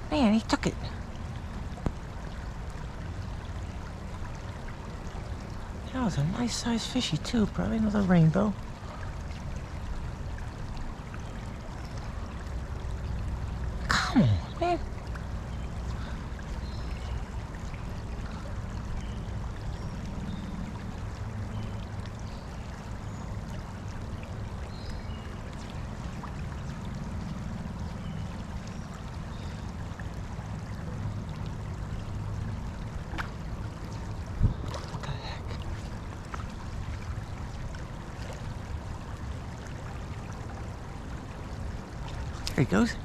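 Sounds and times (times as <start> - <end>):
creek water running: 0.0 - 43.0.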